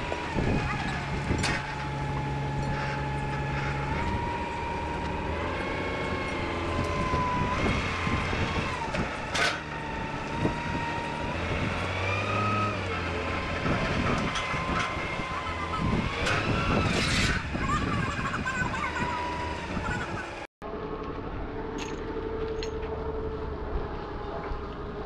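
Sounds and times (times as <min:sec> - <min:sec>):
machine whining: 0:00.0 - 0:25.0.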